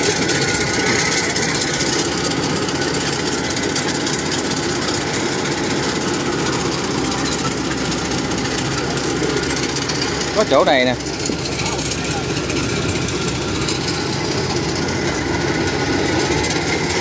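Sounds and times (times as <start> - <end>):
combine harvester engine: 0.0 - 17.0
fast mechanical clatter: 0.0 - 17.0.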